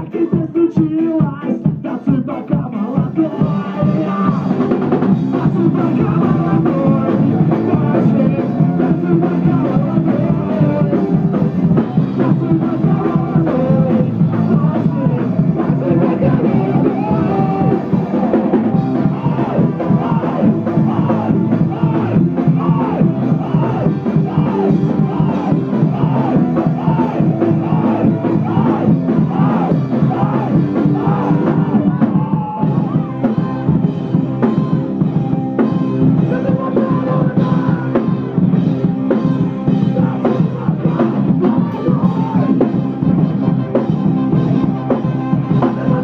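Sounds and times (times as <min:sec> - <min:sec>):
drum kit: 0:00.0 - 0:46.0
live band music: 0:00.0 - 0:46.0
man singing into microphone: 0:00.0 - 0:46.0.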